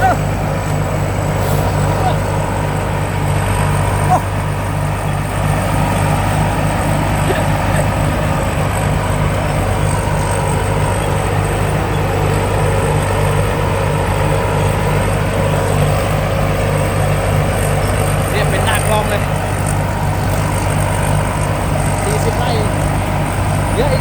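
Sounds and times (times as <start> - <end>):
combine harvester engine hum: 0.0 - 24.0
high machine whine: 0.0 - 24.0.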